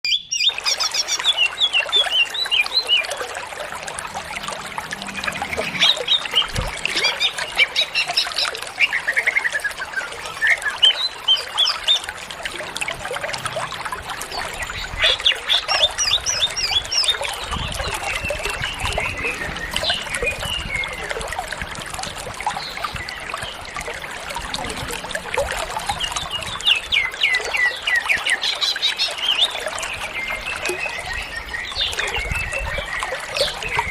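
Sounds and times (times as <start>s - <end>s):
bird singing chirps and trills: 0.0s - 33.9s.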